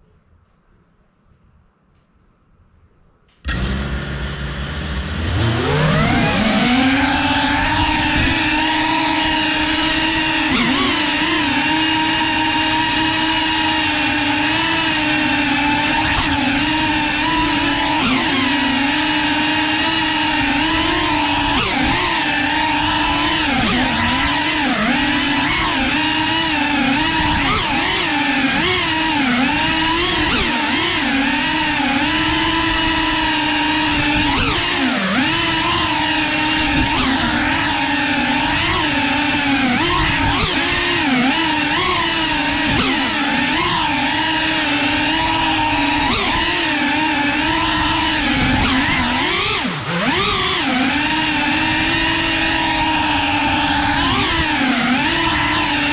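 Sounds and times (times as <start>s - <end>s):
drone motors whining: 3.4s - 55.9s.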